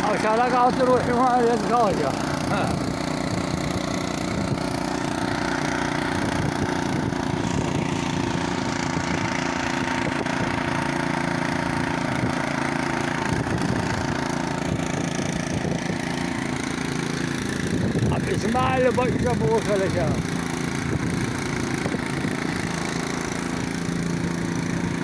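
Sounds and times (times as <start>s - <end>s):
small vehicle engine running: 0.0s - 25.0s.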